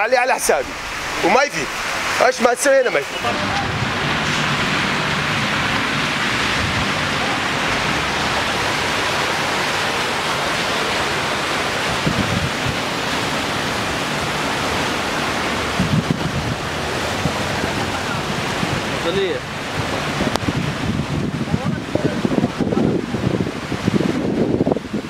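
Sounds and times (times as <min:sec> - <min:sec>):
tyres hissing through floodwater: 0:00.0 - 0:25.0
low engine hum: 0:03.0 - 0:25.0.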